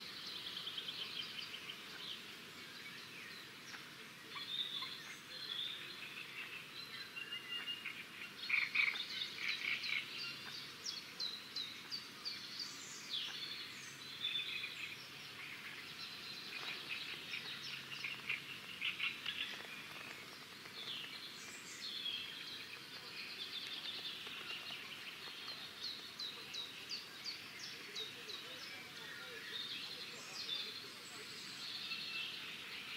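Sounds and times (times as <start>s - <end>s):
small birds chirping and trilling: 0.0s - 32.9s.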